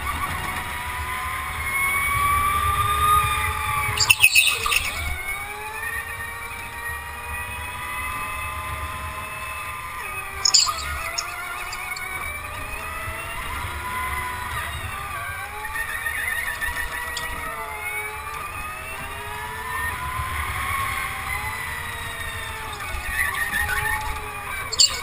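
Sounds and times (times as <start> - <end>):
go-kart motor running: 0.0 - 25.0.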